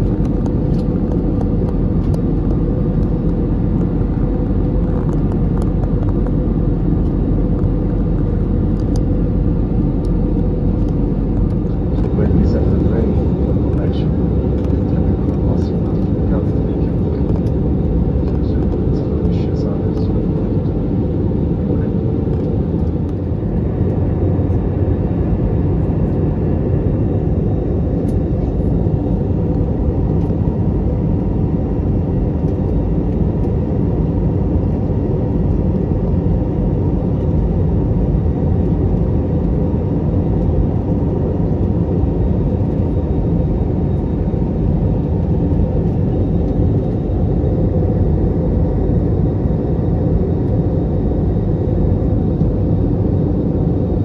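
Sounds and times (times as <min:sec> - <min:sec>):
faint steady hum tones: 0:00.0 - 0:54.0
jet engine low rumble: 0:00.0 - 0:54.0.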